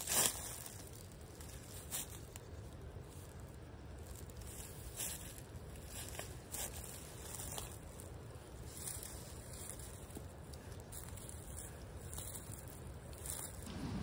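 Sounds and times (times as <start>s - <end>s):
dry leaves rustling underfoot: 0.0s - 14.0s
low steady rumble: 0.0s - 14.0s.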